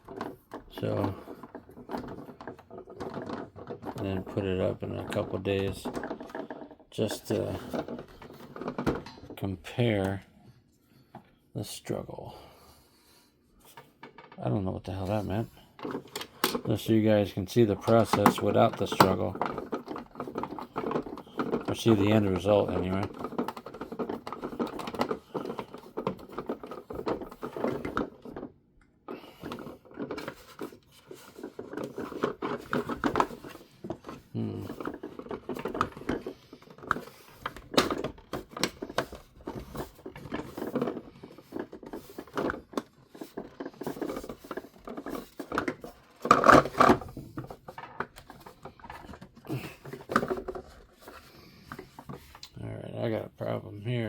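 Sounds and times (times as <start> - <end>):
plastic parts clicking and rattling: 0.0 - 9.4, 13.7 - 52.6.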